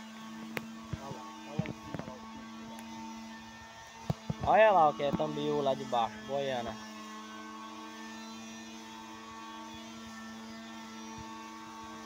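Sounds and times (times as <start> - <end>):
steady droning hum: 0.0 - 12.0.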